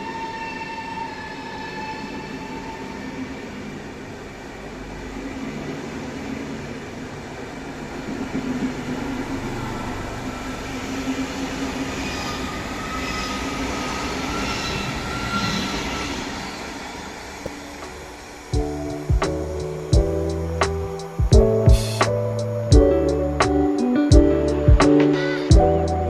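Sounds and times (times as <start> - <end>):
electric train rumbling on track: 0.0 - 26.0
faint high whines: 0.0 - 26.0.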